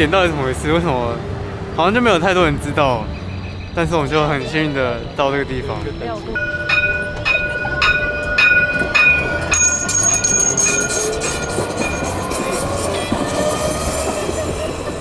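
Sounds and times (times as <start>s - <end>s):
tram wheel squeal: 0.0s - 15.0s.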